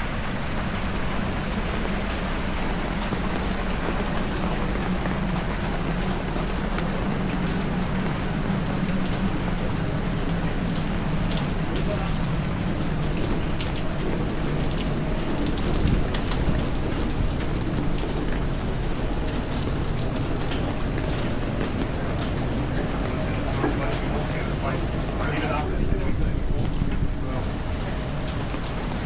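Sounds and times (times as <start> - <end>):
heavy rain falling: 0.0 - 29.0
raindrops striking close by: 0.0 - 29.0.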